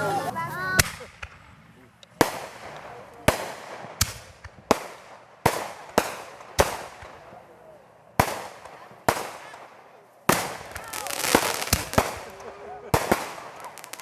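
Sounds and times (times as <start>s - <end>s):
fireworks bangs: 0.7s - 7.6s, 8.2s - 14.0s.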